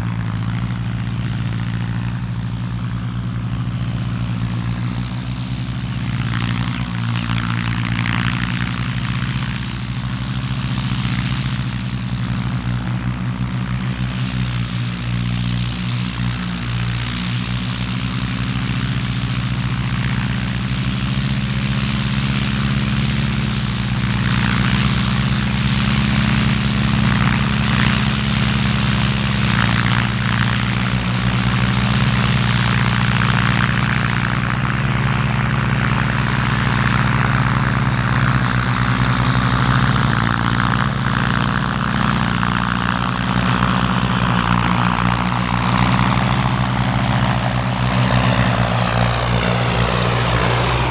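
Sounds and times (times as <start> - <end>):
diesel tractor engine running: 0.0 - 50.9
harsh mechanical noise: 0.0 - 50.9.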